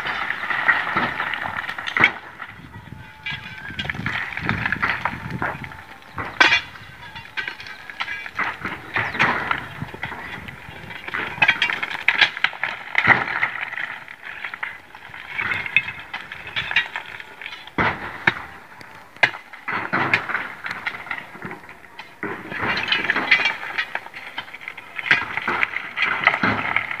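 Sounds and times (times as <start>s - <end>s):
broken stone clattering: 0.0s - 27.0s.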